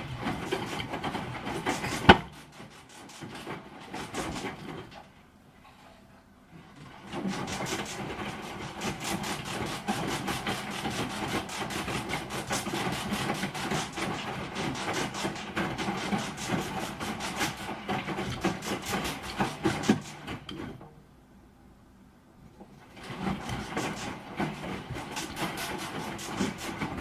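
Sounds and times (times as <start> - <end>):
washing machine clattering and knocking: 0.0 - 5.5, 6.5 - 21.1, 22.6 - 27.0
washing machine rumble: 0.0 - 27.0.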